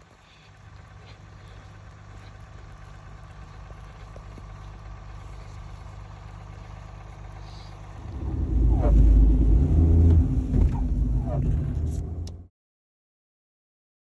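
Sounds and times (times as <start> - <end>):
vehicle engine idling: 0.0 - 12.5.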